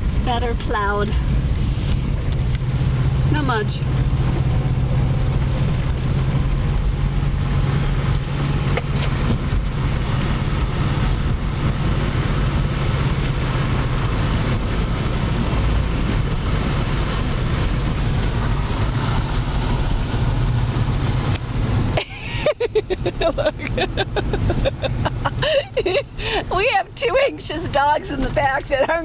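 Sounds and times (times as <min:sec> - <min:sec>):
engine hum inside car: 0:00.0 - 0:29.0
tyre and road noise: 0:00.0 - 0:29.0.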